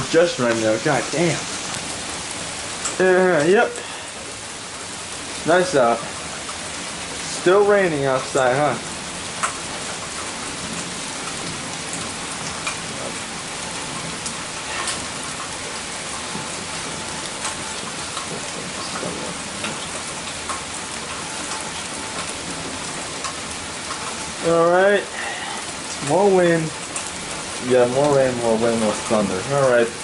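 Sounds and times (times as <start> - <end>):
raindrop taps: 0.0 - 30.0
steady rain falling: 0.0 - 30.0.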